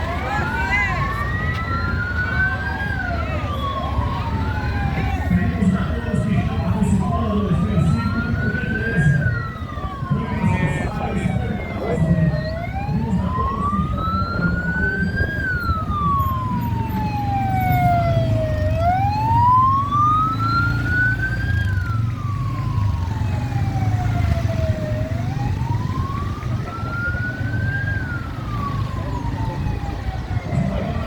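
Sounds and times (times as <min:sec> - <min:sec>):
engines rumbling: 0:00.0 - 0:31.0
siren wailing: 0:00.0 - 0:31.0.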